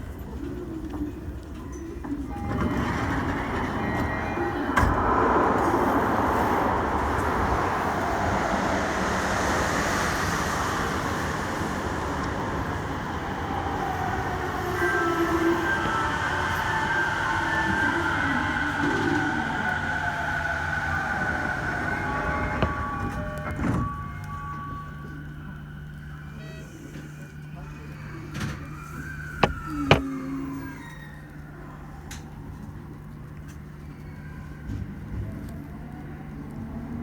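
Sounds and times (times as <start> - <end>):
wheel and track rumble: 0.0 - 37.0
whining tone of train motors: 0.0 - 37.0.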